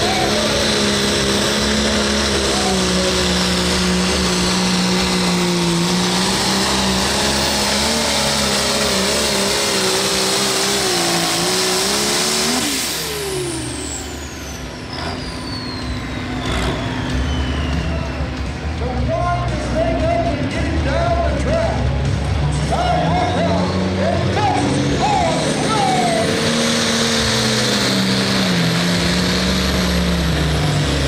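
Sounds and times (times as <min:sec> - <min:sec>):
diesel tractor engine at full throttle: 0:00.0 - 0:31.0
high turbo whine: 0:00.0 - 0:31.0.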